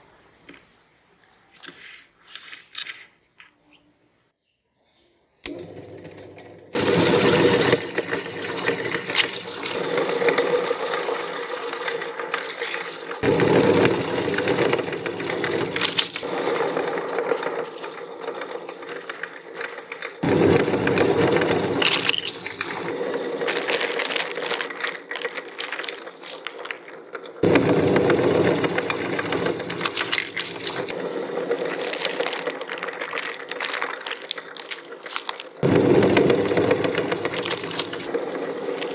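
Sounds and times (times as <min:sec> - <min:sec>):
meat grinder motor hum: 0:05.5 - 0:25.8, 0:27.4 - 0:38.9
crackers crunching: 0:06.8 - 0:38.9.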